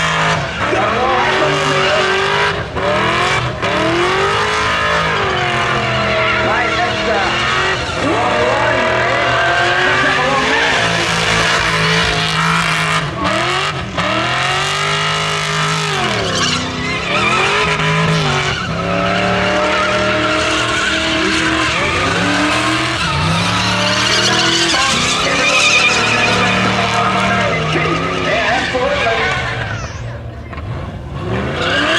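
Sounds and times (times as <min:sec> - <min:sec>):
car engine revving: 0:00.0 - 0:31.9
tyres squealing: 0:00.3 - 0:30.6.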